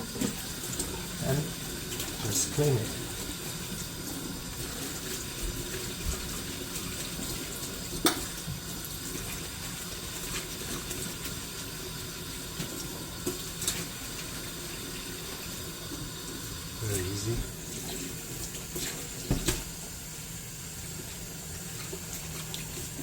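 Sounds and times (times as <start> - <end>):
tap water running into sink: 0.0 - 23.0.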